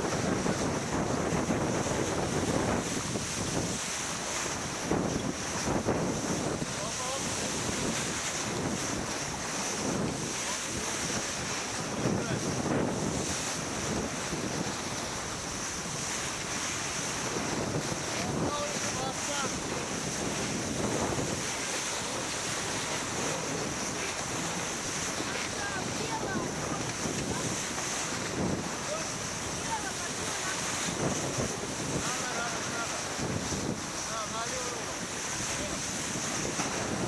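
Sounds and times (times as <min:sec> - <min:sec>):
water splashing along hull: 0:00.0 - 0:37.0
wind buffeting microphone: 0:00.0 - 0:37.0.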